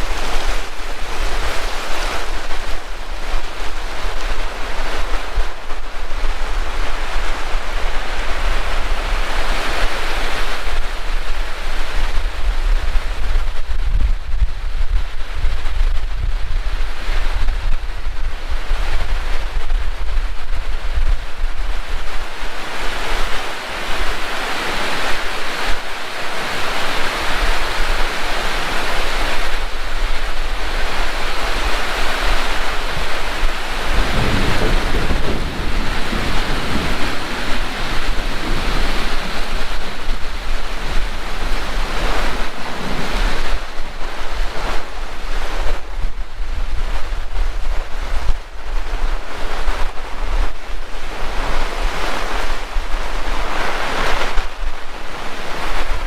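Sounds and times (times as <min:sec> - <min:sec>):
heavy rain pouring: 0:00.0 - 0:56.0
wind rumble on microphone: 0:00.0 - 0:56.0.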